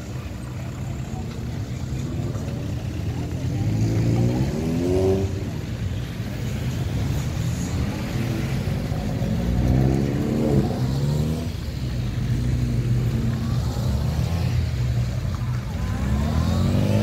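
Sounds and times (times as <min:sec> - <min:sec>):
cars pulling away: 0:00.0 - 0:17.0.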